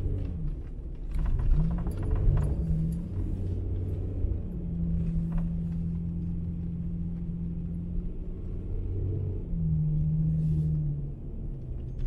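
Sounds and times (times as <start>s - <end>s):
pickup engine and tyre drone: 0.0s - 12.0s.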